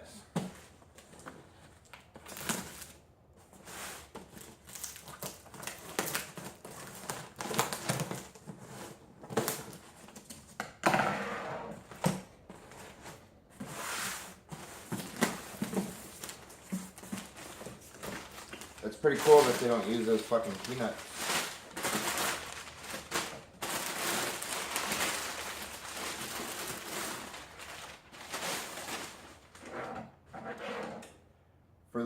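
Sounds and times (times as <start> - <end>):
cardboard box being unpacked: 0.5 - 10.5, 11.7 - 29.7.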